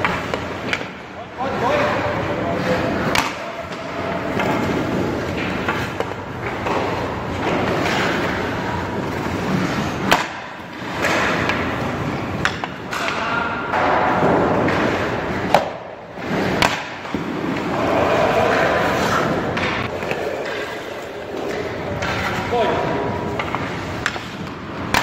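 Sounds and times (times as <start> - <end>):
pucks clacking off stick: 0.0 - 25.0
skates scraping on ice: 0.0 - 25.0.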